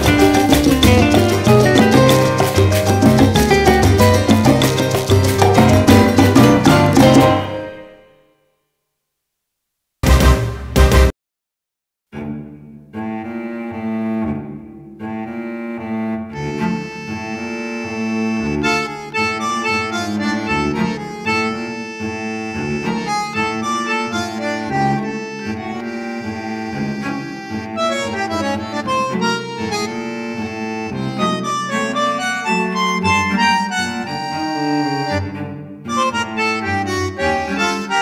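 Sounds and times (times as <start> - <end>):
lively instrumental music: 0.0 - 8.2, 10.0 - 11.1, 16.2 - 38.0.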